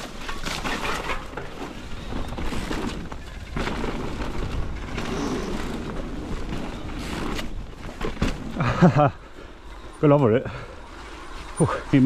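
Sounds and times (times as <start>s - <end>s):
mountain bike tyres on dirt: 0.0s - 12.0s.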